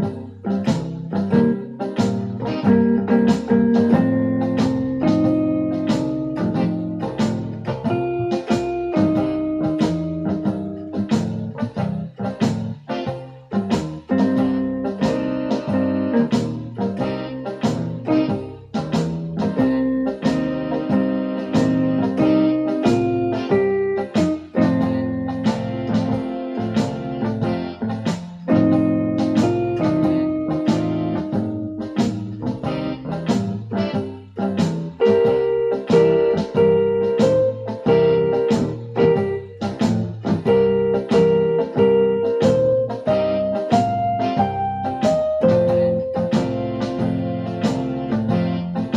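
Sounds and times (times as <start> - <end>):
electronic keyboard playing blues: 0.0 - 48.9.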